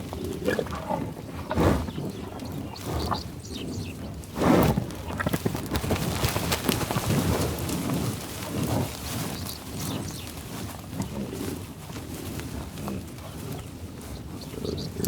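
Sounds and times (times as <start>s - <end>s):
buffalo growling low: 0.0s - 5.5s, 6.9s - 15.0s.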